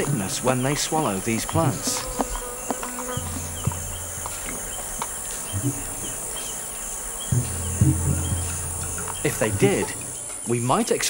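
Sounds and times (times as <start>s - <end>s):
short knocks: 0.0s - 10.3s
low steady hum: 0.0s - 10.4s
short insect chirps: 0.0s - 10.7s
forest insects droning: 0.0s - 11.0s.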